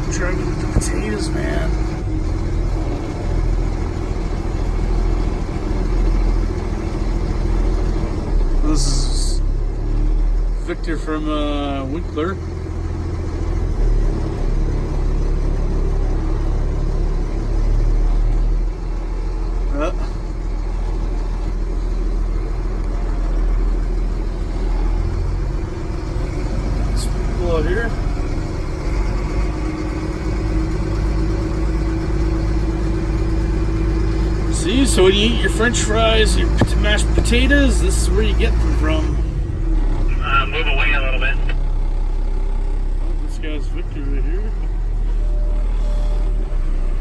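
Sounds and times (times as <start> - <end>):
truck engine drone: 0.0 - 47.0.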